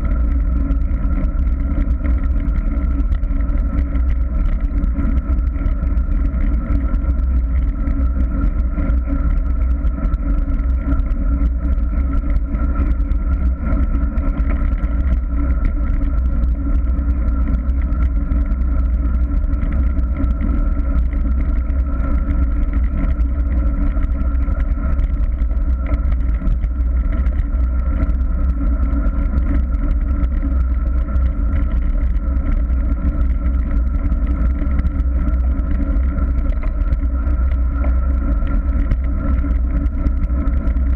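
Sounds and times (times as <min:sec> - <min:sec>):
constant hum: 0:00.0 - 0:40.9.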